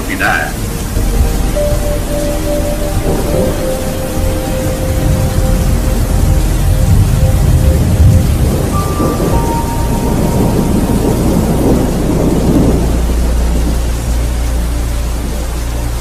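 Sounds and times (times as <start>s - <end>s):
thunder rolling: 0.0s - 15.5s
steady rain: 0.0s - 16.0s.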